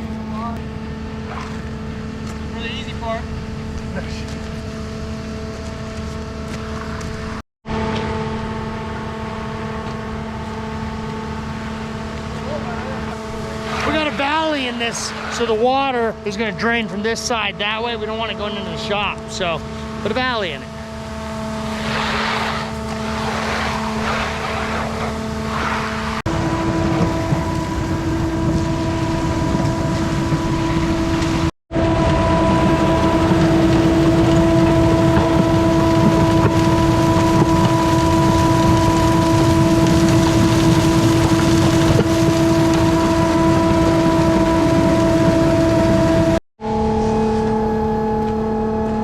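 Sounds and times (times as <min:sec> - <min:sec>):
engine droning steadily: 0:00.0 - 0:49.0.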